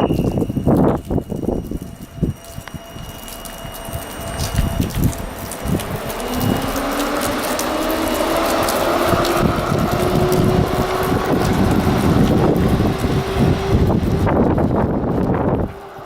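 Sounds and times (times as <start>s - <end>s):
electric train motor whine: 0.0s - 16.0s
wind buffeting microphone: 0.0s - 16.0s.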